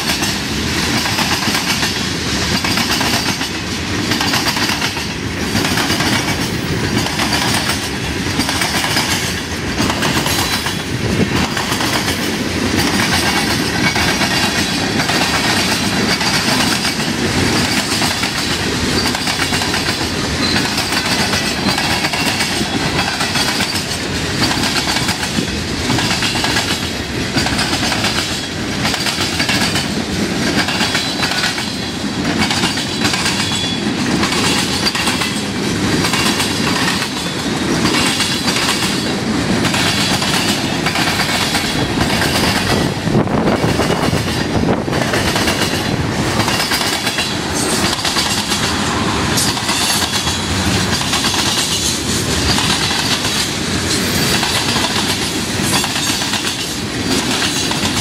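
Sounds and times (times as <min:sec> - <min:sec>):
train cars rumbling and rattling: 0:00.0 - 0:58.0
wheels clacking over rail joints: 0:00.0 - 0:58.0.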